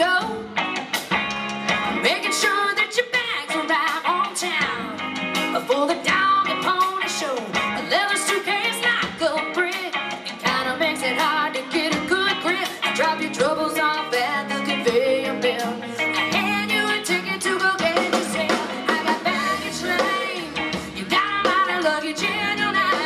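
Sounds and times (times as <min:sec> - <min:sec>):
woman singing: 0:00.0 - 0:00.6, 0:01.8 - 0:23.0
bass guitar: 0:00.0 - 0:23.0
drum kit: 0:00.0 - 0:23.0
electric guitar: 0:00.0 - 0:23.0.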